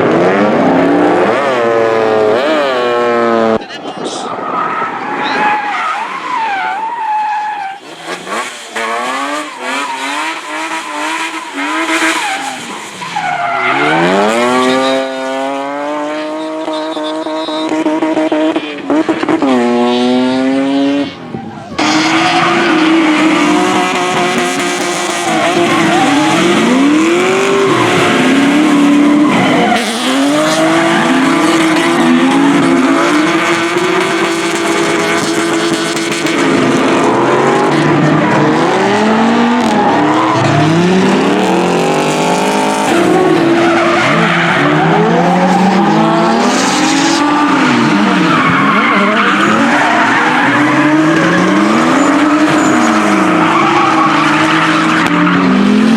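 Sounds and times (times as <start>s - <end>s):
car engine revving: 0.0s - 4.2s, 7.6s - 55.9s
tyres screeching: 2.3s - 15.4s, 21.6s - 35.3s, 37.1s - 55.6s.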